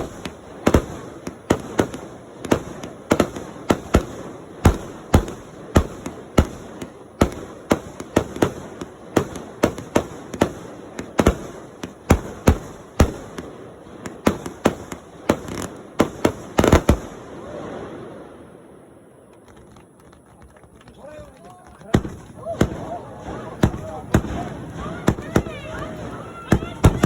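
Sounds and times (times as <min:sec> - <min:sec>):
fireworks banging: 0:00.0 - 0:18.5, 0:19.2 - 0:27.0.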